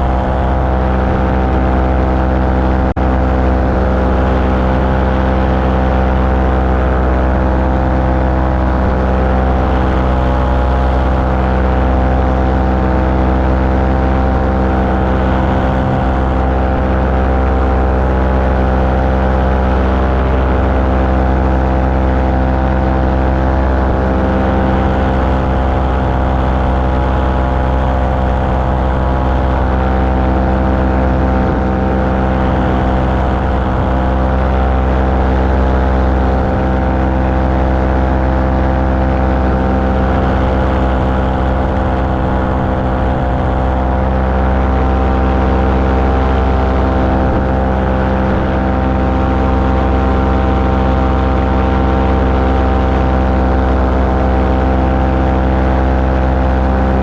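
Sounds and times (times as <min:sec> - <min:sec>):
small aircraft engine running: 0:00.0 - 0:57.0.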